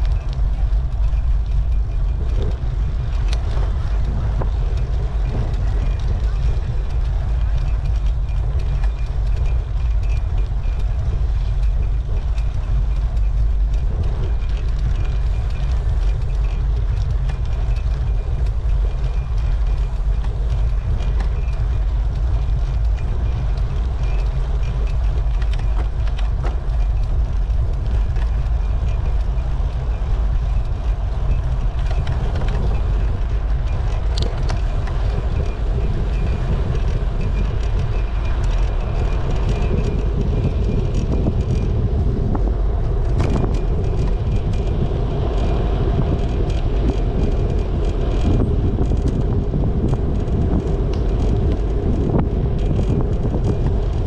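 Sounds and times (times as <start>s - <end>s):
bicycle tyre noise on road: 0.0s - 54.0s
wind buffeting microphone: 0.0s - 54.0s.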